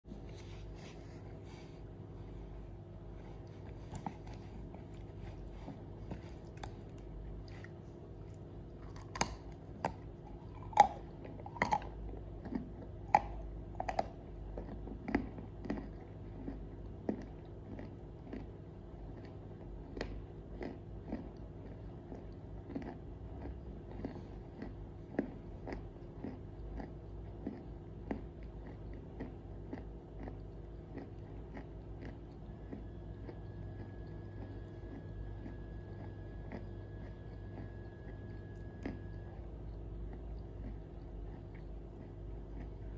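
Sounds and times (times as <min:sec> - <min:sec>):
crunchy biting and chewing: 0:03.1 - 0:42.9.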